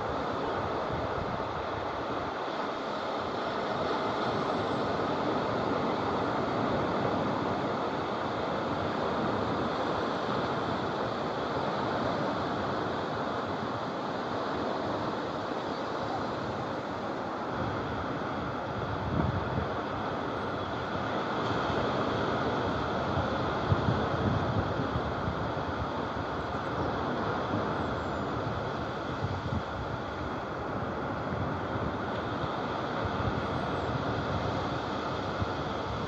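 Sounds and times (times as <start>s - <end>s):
surf washing onto beach: 0.0s - 36.0s
wind noise on microphone: 0.0s - 36.0s.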